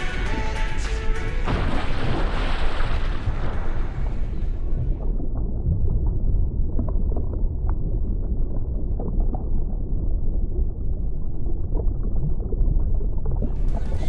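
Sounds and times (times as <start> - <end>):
deep muffled underwater rumble: 1.5 - 14.0
faint bubbling: 2.4 - 14.0.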